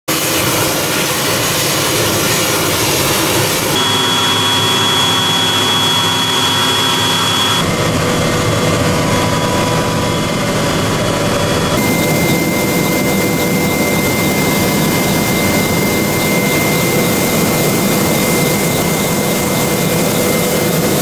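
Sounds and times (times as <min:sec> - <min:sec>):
helicopter engines and rotor: 0:00.1 - 0:21.0
high turbine whine: 0:00.1 - 0:21.0.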